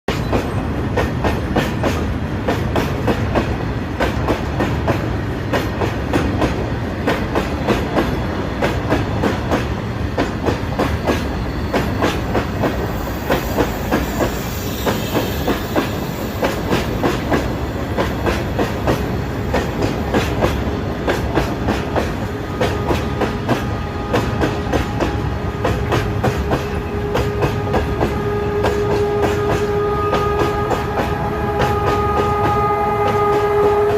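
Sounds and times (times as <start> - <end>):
train rumble: 0.1 - 33.9
train wheels clicking over rail joints: 0.1 - 33.9.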